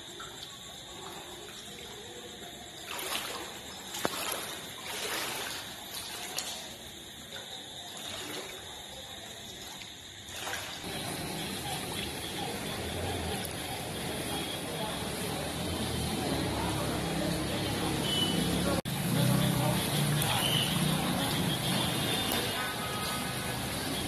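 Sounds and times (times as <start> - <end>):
floodwater sloshing and trickling: 0.0 - 24.0
water splashes: 0.0 - 24.0.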